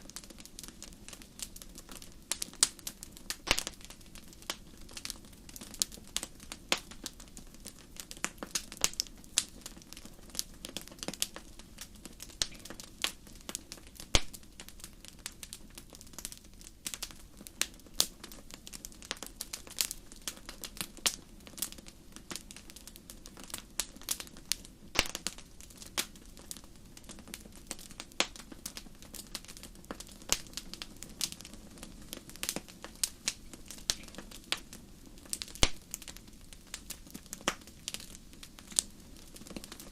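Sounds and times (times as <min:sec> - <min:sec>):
fire crackling and popping: 0:00.0 - 0:39.9
fire low hiss: 0:00.0 - 0:39.9.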